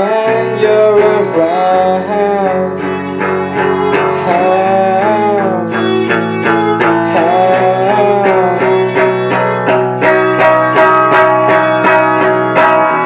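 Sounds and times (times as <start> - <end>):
picked guitar notes: 0.0 - 13.0
pitch-bending melody line: 0.6 - 13.0.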